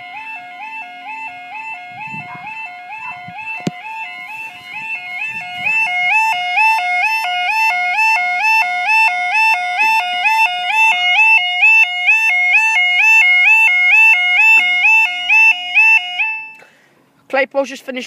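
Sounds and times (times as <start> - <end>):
two-tone crossing alarm warble: 0.0 - 16.7.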